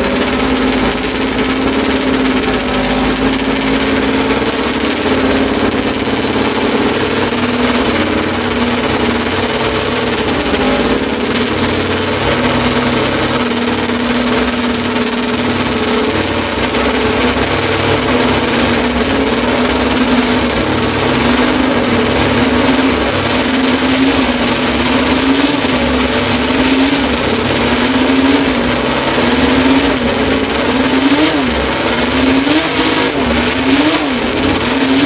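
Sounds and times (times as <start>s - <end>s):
racing engine running: 0.0s - 35.0s.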